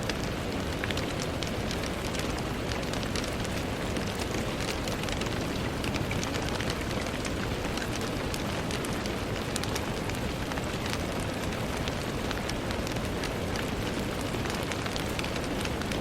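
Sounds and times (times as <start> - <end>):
rain hiss: 0.0 - 16.0
raindrops tapping on glass: 0.0 - 16.0.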